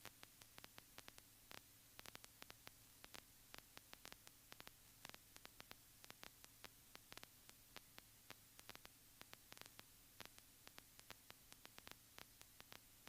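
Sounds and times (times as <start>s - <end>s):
small clicks: 0.0s - 12.9s
faint static hiss: 0.0s - 13.0s.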